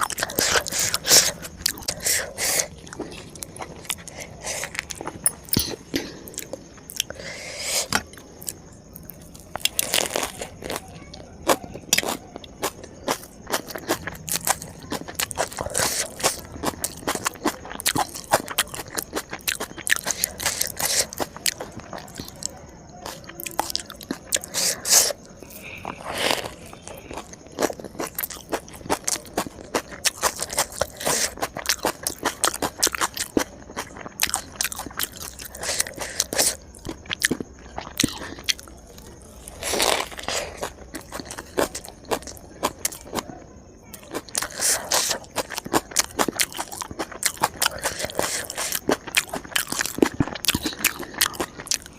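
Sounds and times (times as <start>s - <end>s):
chewing crisp food: 0.0s - 51.9s.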